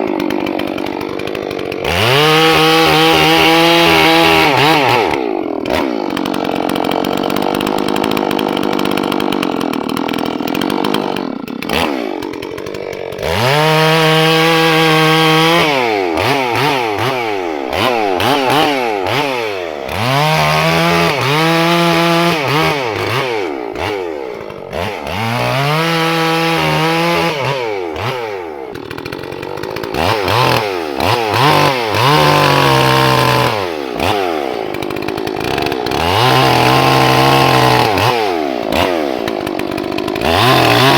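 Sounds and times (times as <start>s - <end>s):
chainsaw cutting and revving: 0.0s - 40.9s.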